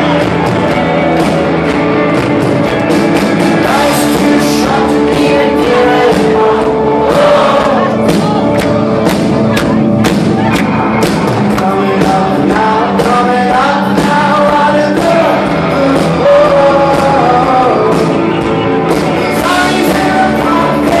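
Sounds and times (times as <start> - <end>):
live rock band playing: 0.0 - 21.0
person singing: 3.4 - 21.0.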